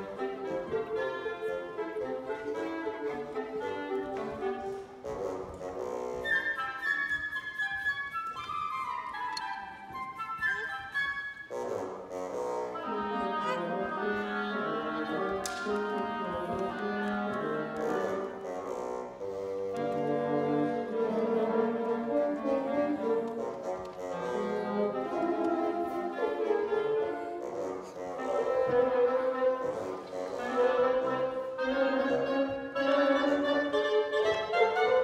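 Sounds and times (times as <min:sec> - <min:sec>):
woodwind quintet playing: 0:00.0 - 0:35.0.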